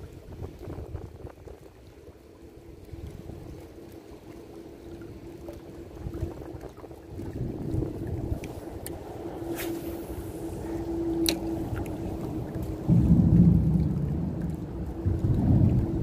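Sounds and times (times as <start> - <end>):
wind on microphone: 0.0 - 4.0, 5.1 - 16.0
steady low hum: 2.4 - 16.0.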